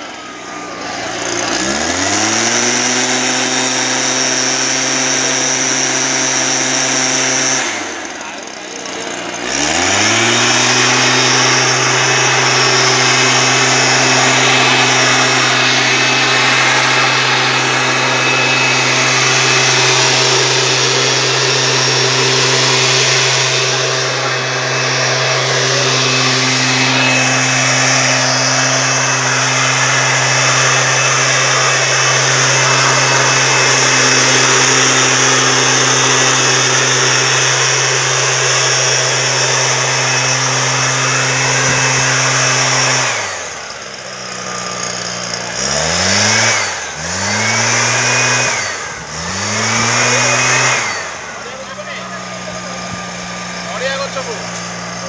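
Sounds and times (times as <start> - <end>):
mist blower engine running: 0.0 - 55.0.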